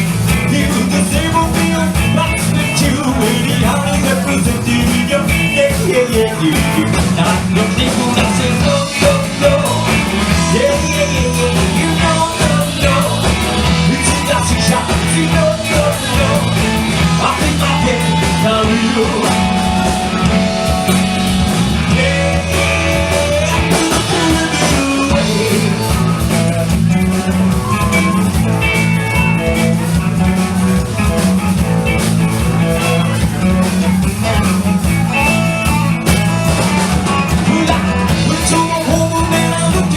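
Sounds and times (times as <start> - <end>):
guitar melody: 0.0 - 39.9
live blues rock band: 0.0 - 39.9
steady bass line: 0.0 - 39.9.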